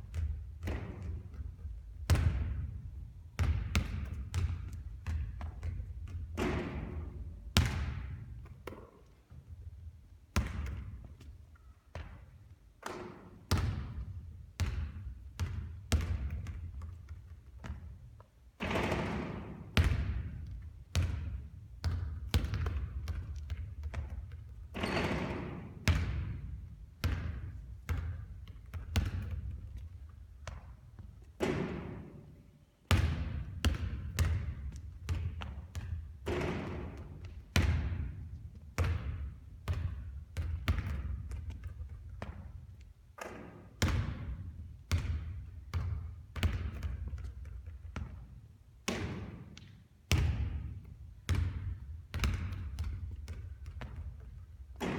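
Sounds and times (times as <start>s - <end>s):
basketball bouncing on court: 0.0s - 32.3s, 32.9s - 54.9s.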